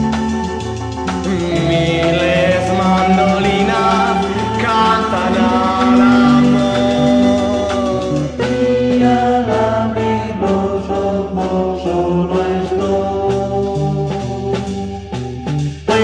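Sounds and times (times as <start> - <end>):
rock and roll band instrumental: 0.0 - 16.0.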